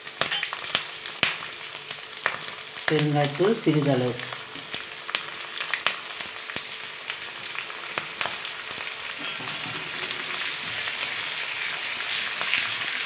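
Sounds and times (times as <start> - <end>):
frying in hot oil: 0.0 - 13.0.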